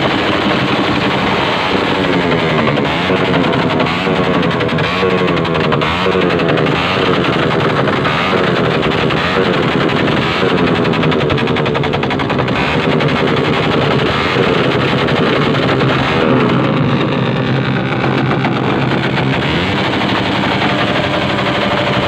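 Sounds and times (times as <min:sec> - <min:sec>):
vehicle engines revving: 0:00.0 - 0:22.0.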